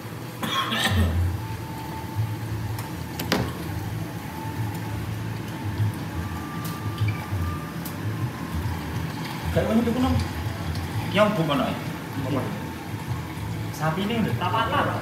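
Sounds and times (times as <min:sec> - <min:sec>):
low uneven rumble of grilling: 0:00.0 - 0:15.0.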